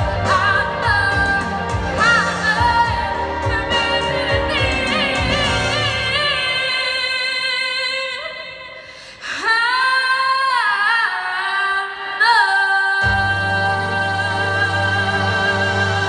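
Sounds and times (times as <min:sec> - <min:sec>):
woman singing a pop ballad: 0:00.0 - 0:16.0.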